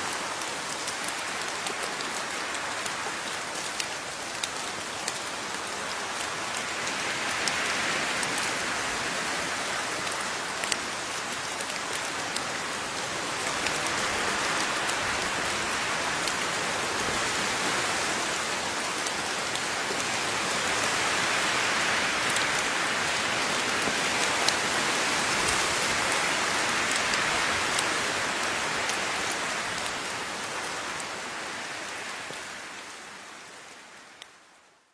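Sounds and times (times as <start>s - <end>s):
rain falling: 0.0s - 34.9s
raindrops ticking on a surface: 0.0s - 34.9s.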